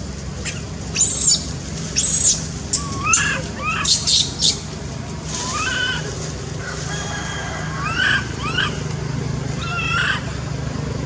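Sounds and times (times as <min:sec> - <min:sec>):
monkeys calling: 0:00.0 - 0:10.6
steady low hum: 0:00.0 - 0:11.0.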